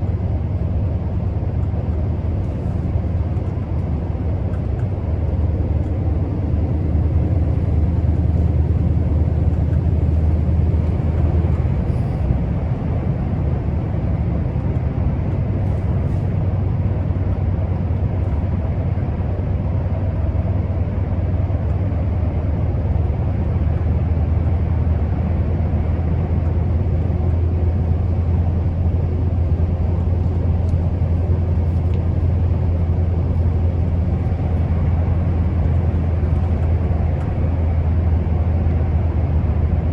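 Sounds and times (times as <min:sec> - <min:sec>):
diesel truck engine droning: 0:00.0 - 0:39.9
road noise: 0:00.0 - 0:39.9.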